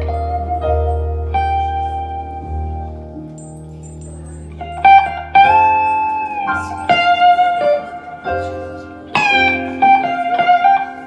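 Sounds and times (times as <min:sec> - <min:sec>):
electric guitar lead notes: 0:00.0 - 0:11.0.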